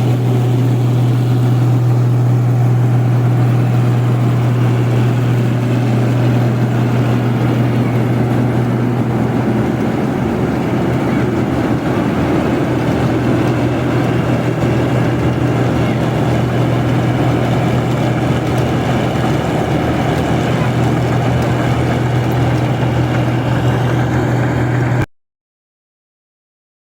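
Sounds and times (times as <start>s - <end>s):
combine harvester running: 0.0s - 25.1s.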